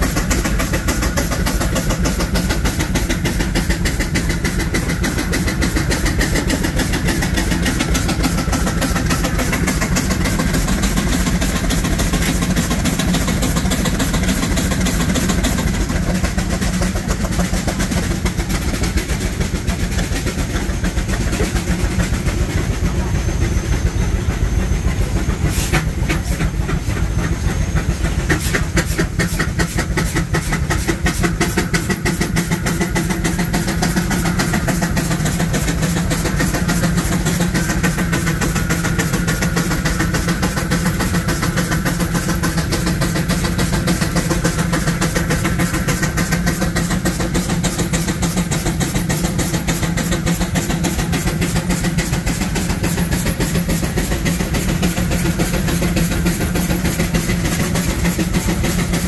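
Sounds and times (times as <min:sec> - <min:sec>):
steam traction engine rumbling: 0:00.0 - 0:59.0.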